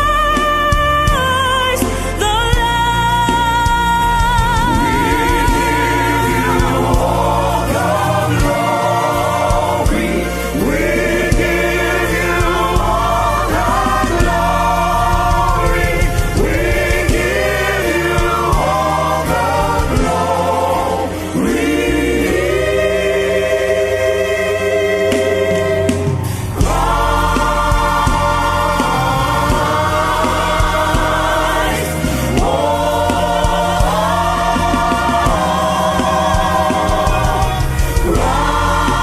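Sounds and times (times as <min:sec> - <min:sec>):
gospel choir singing: 0:00.0 - 0:39.0
instrumental accompaniment with bass: 0:00.0 - 0:39.0.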